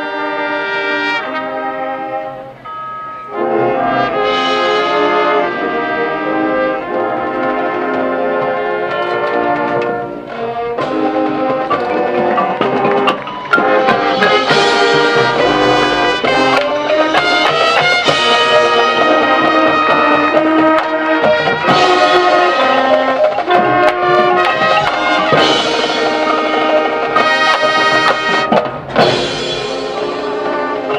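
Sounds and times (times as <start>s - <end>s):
brass chords: 0.0s - 30.9s
percussion hits: 2.6s - 30.9s.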